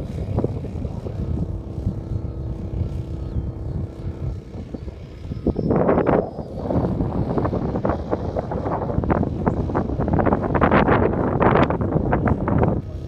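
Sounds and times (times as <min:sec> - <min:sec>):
model airplane motor tone: 0:00.0 - 0:13.0
wind buffeting microphone: 0:00.0 - 0:13.0.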